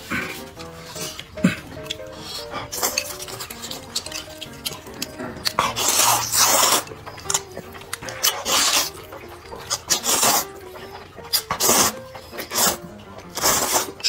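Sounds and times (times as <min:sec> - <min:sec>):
person slurping noodles: 0:00.0 - 0:10.6, 0:11.2 - 0:14.0.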